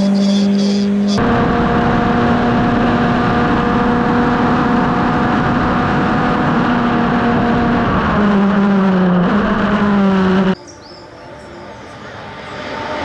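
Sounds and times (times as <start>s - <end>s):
racing car engine running hard: 0.0s - 13.0s
wind and road noise: 0.0s - 13.0s.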